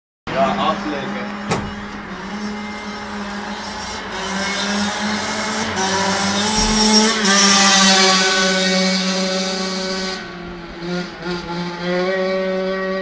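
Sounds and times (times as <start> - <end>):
motocross bike passing by: 0.3 - 13.0.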